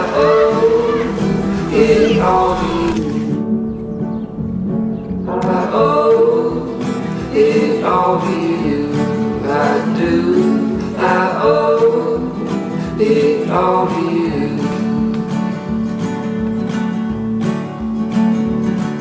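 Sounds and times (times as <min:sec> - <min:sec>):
acoustic guitar song: 0:00.0 - 0:19.0.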